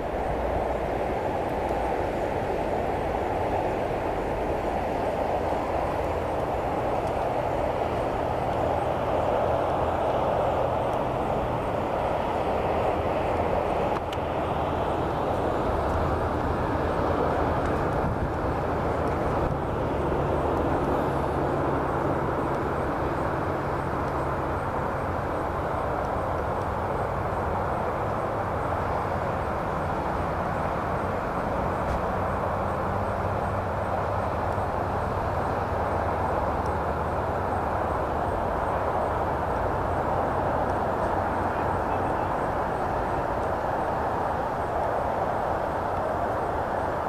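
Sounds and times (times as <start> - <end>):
low engine-like hum: 0.0 - 47.0.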